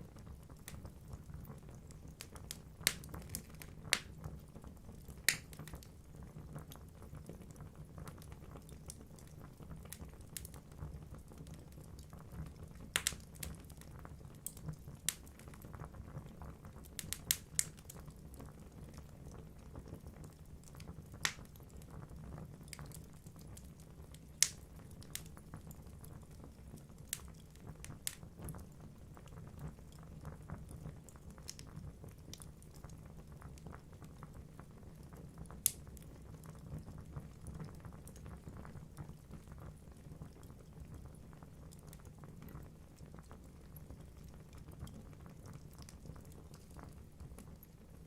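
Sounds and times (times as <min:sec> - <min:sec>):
low rumble of flame: 0:00.0 - 0:48.0
small fire crackles: 0:00.0 - 0:48.0.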